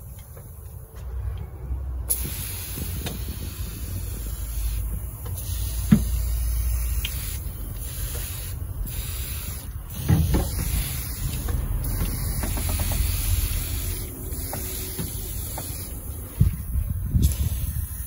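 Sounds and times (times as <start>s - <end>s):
aerosol can spraying: 2.1s - 18.0s.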